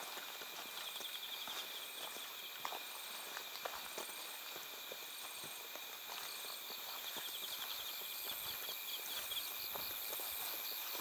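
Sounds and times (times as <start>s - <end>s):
faint footstep scuffs: 0.0s - 11.0s
insects chirping: 0.0s - 11.0s.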